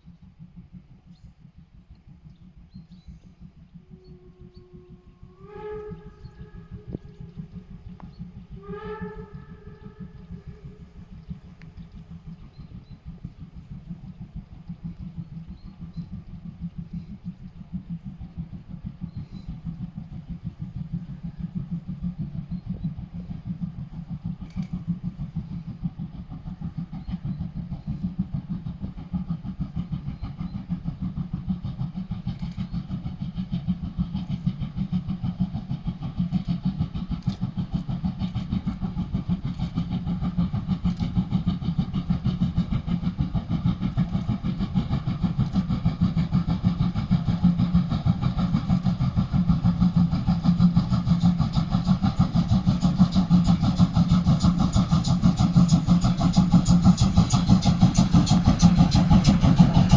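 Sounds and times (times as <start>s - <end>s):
steam locomotive exhaust chuffs: 0.0s - 59.9s.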